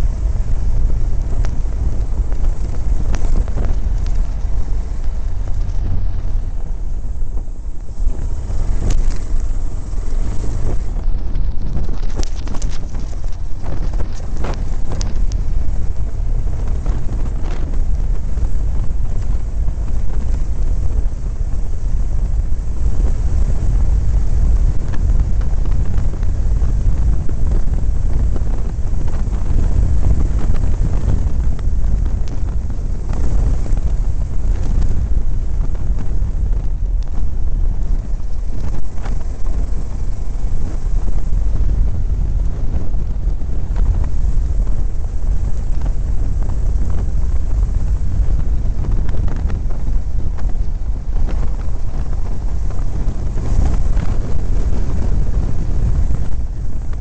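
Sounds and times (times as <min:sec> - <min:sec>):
motorcycle engine: 0:00.0 - 0:57.0
wind rumble on microphone: 0:00.0 - 0:57.0.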